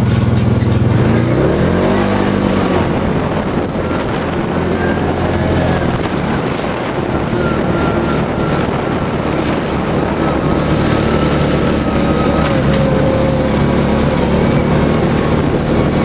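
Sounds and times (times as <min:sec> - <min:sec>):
engine running under way: 0:00.0 - 0:16.0
rough ground noise: 0:00.0 - 0:16.0
wind noise: 0:00.0 - 0:16.0.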